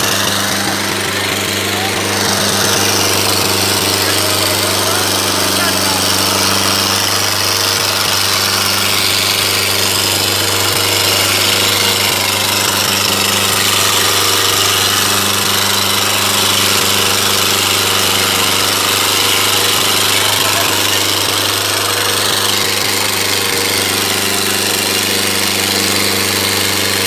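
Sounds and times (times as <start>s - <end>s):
tractor diesel engine clattering: 0.0s - 27.0s.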